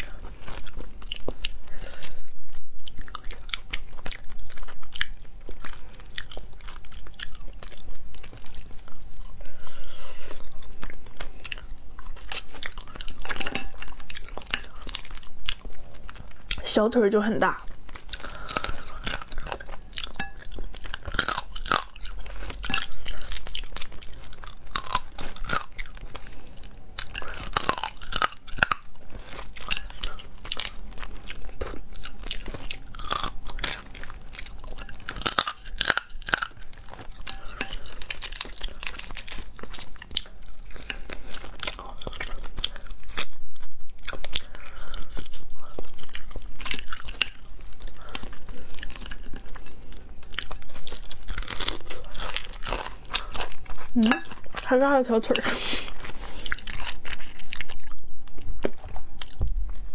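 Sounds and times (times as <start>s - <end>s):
chewing and crunching shellfish: 0.0s - 59.9s.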